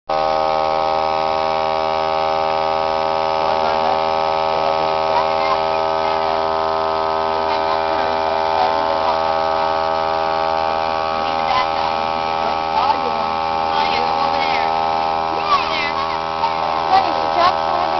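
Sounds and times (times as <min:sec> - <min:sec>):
steady electrical buzz: 0:00.1 - 0:17.9.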